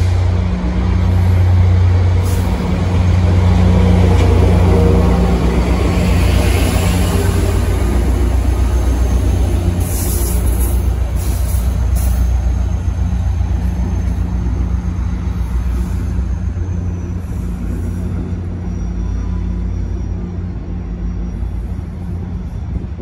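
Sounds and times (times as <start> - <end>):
diesel locomotive engine drone: 0.0 - 23.0.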